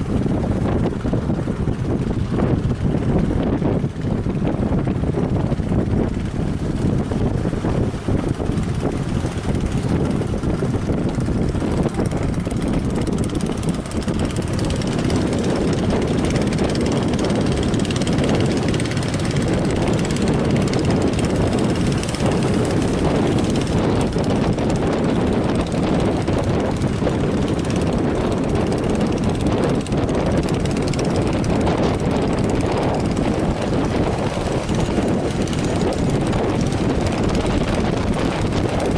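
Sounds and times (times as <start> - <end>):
boat engines droning: 0.0 - 38.9
wind buffeting microphone: 0.0 - 38.9.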